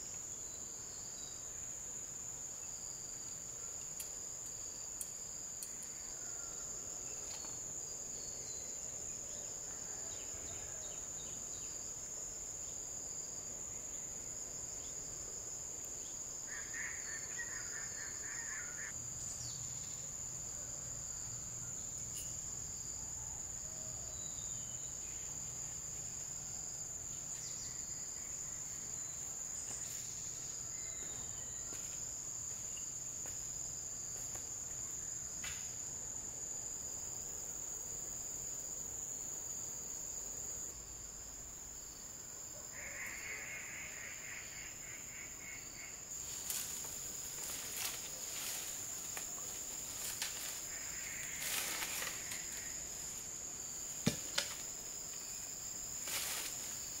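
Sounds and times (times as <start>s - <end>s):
insects droning: 0.0s - 57.0s
rapid insect chirping: 0.0s - 57.0s.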